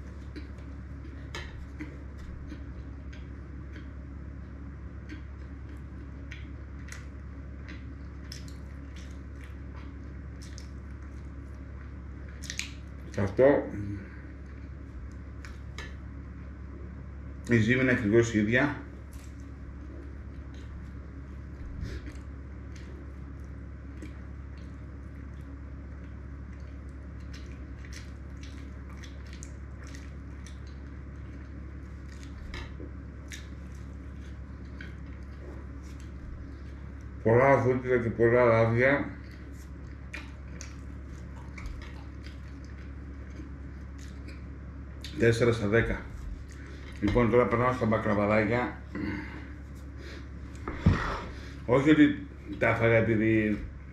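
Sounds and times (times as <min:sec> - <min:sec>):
chewing bread: 0:00.0 - 0:17.6, 0:18.9 - 0:37.2, 0:39.1 - 0:51.7
steady low hum: 0:00.0 - 0:53.9.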